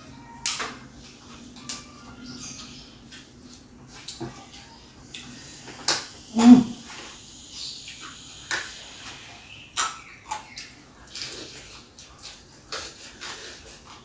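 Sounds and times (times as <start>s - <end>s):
crunching and wet chewing: 0.3s - 14.0s.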